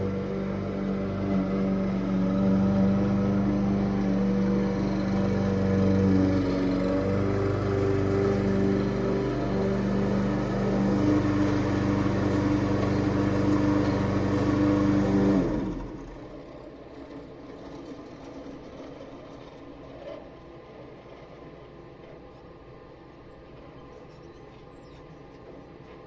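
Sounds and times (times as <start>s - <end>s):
small gasoline engine running: 0.0s - 22.4s.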